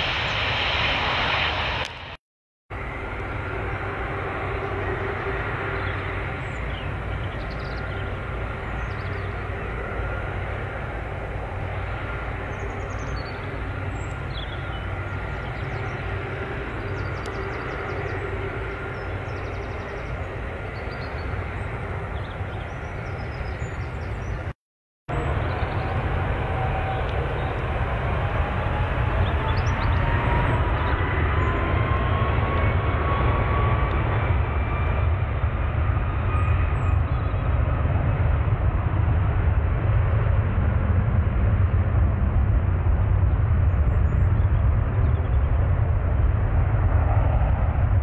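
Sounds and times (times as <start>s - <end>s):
rising engine whine: 0.0s - 24.5s, 25.1s - 48.0s
jet engines rumbling: 0.0s - 48.0s.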